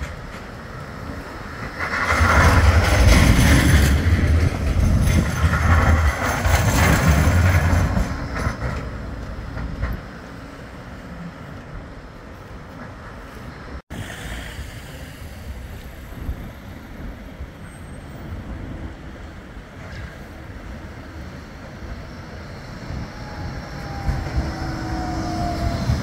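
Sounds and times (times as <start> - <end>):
tram wheels rumbling on rail: 0.0 - 26.0.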